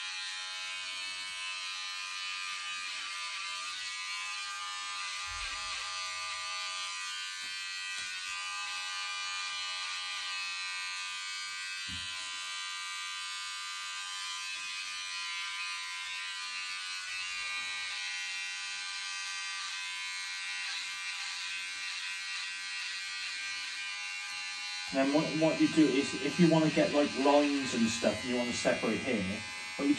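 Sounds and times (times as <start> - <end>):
electric hair clippers buzzing: 0.0 - 29.9.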